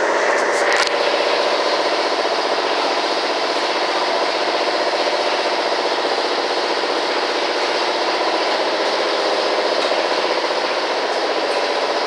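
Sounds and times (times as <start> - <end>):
shop machinery running: 0.0 - 12.0.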